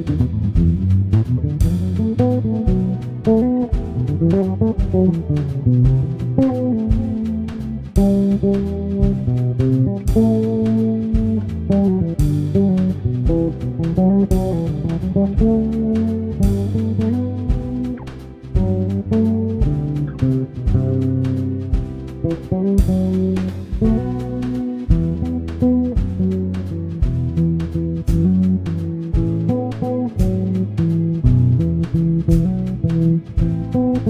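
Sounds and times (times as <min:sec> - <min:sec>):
bass line: 0:00.0 - 0:34.0
plucked guitar melody: 0:00.0 - 0:34.0
sharp percussive stroke: 0:00.0 - 0:34.0.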